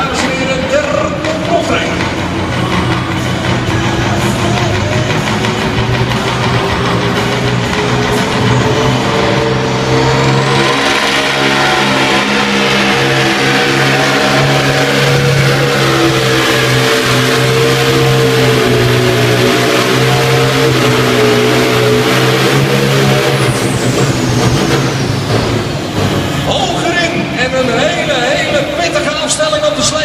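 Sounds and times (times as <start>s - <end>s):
high whine rising in pitch: 0.0s - 30.0s
tractor engine at full power: 0.0s - 30.0s.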